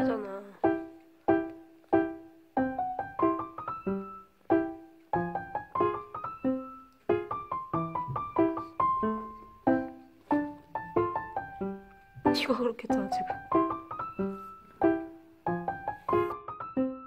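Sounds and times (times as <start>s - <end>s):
bouncy piano music: 0.0s - 17.0s.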